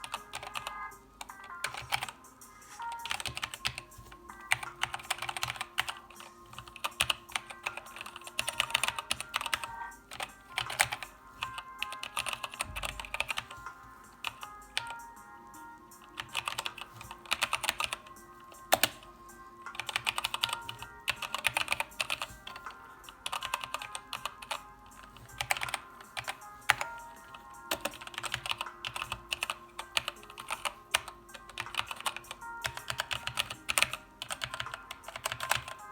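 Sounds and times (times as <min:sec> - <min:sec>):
mechanical keyboard typing: 0:00.0 - 0:02.2, 0:02.8 - 0:15.1, 0:15.9 - 0:19.1, 0:19.7 - 0:35.9.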